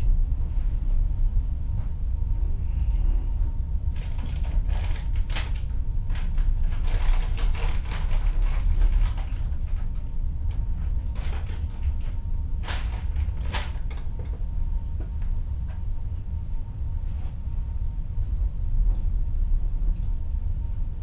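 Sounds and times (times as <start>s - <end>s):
low ship rumble: 0.0s - 21.0s.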